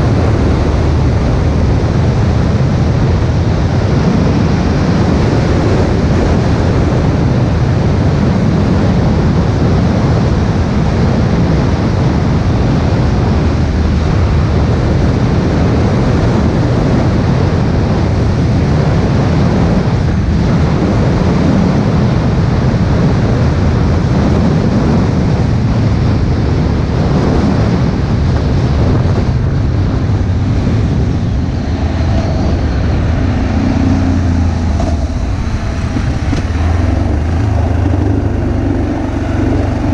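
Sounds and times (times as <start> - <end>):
tyres on road: 0.0 - 39.9
vehicle engine rumble: 0.0 - 39.9
wind rushing across microphone: 0.0 - 39.9.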